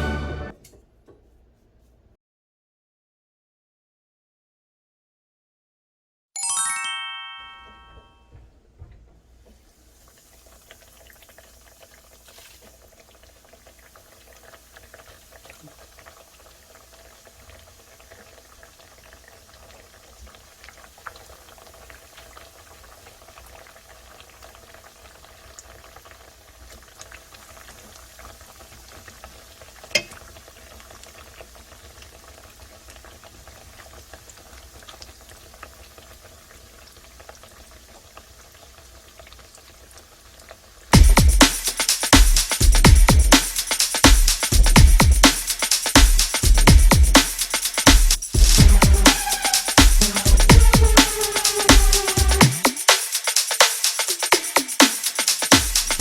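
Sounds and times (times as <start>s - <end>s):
oil sizzling in a frying pan: 9.5s - 51.7s, 52.5s - 56.0s.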